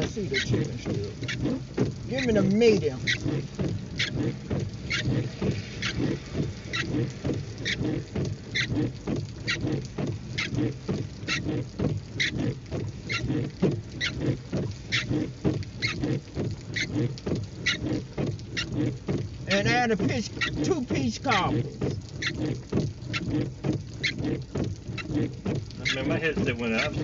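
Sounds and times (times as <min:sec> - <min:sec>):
rain pattering on car: 0:00.0 - 0:27.0
sharp ticking: 0:00.0 - 0:27.0
windscreen wipers running: 0:00.0 - 0:27.0.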